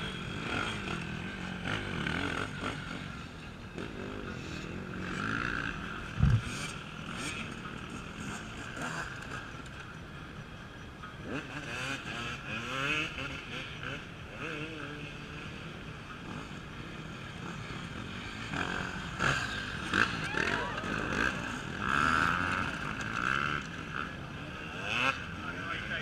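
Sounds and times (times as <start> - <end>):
distant motorcycles droning: 0.0 - 26.0
motorcycle engines revving: 0.0 - 26.0.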